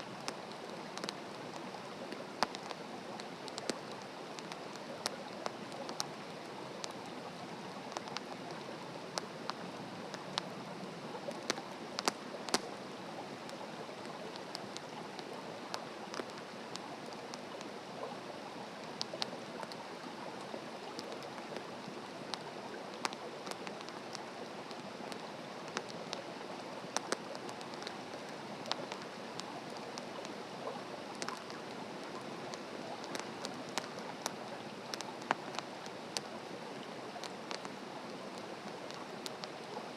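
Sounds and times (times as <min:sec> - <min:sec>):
burning wood crackling and popping: 0:00.0 - 0:39.9
campfire hissing: 0:00.0 - 0:39.9.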